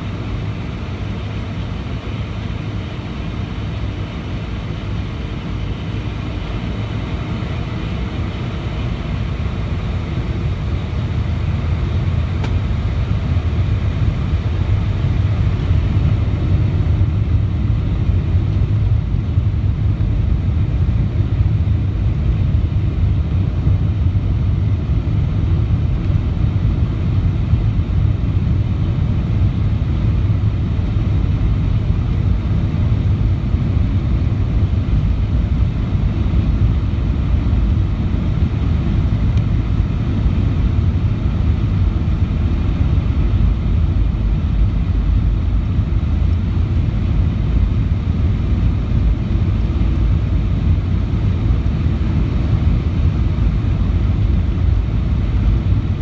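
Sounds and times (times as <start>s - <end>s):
jet engines low rumble: 0.0s - 56.0s.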